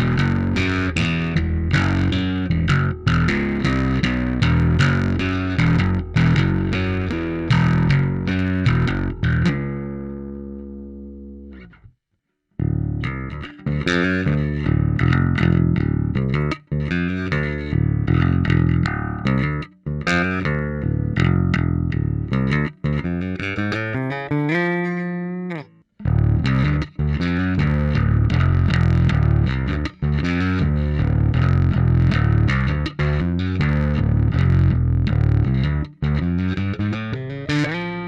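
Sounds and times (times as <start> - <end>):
overdriven bass guitar notes: 0.0 - 12.0, 12.6 - 38.0.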